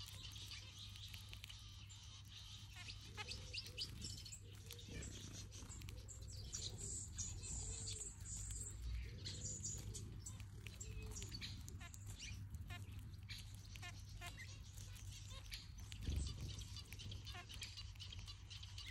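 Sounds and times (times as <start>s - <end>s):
finches chirping and twittering: 0.0s - 18.9s.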